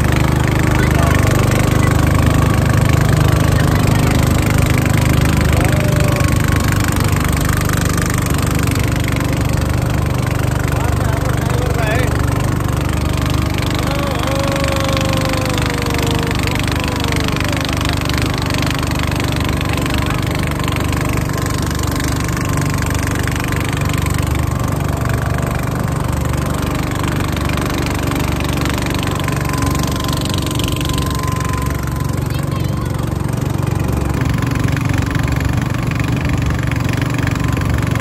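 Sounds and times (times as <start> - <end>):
motorboat engine running: 0.0 - 38.0.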